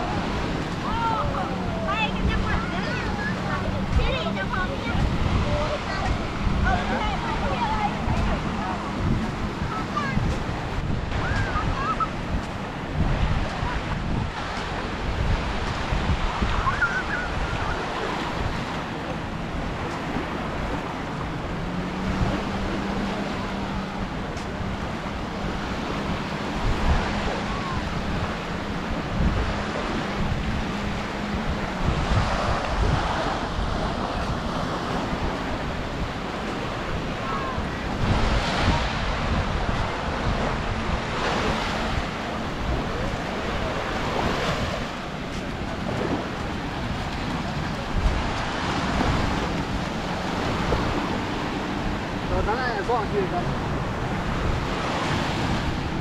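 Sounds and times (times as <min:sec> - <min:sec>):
small waves breaking on sand: 0:00.0 - 0:56.0
wind buffeting microphone: 0:00.0 - 0:56.0.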